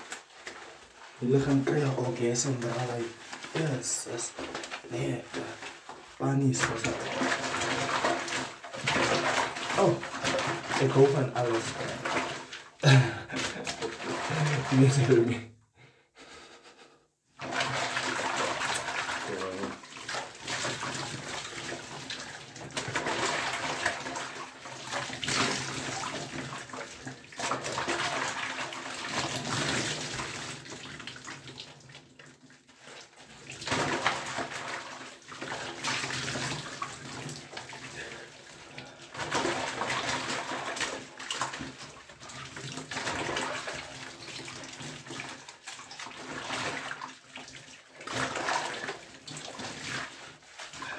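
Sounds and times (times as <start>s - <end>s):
sponge scrubbing skin: 0.0s - 15.3s, 17.4s - 50.9s
water running and splashing: 0.0s - 15.4s, 17.4s - 50.9s.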